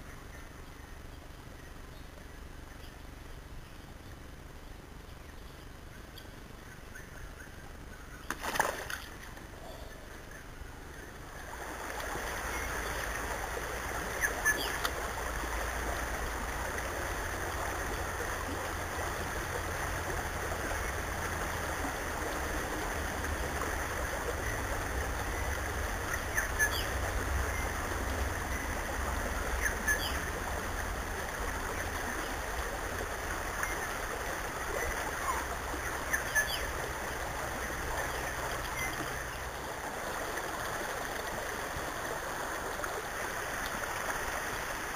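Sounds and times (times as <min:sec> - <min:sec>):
flowing river water: 0:00.0 - 0:44.9.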